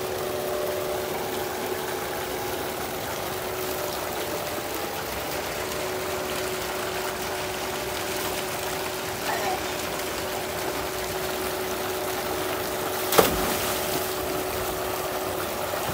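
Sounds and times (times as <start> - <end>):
steady hum: 0.0 - 15.9
water gushing into concrete tank: 0.0 - 15.9.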